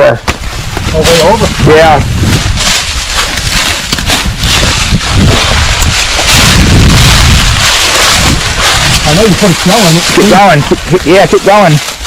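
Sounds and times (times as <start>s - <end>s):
strong wind buffeting microphone: 0.0s - 11.6s.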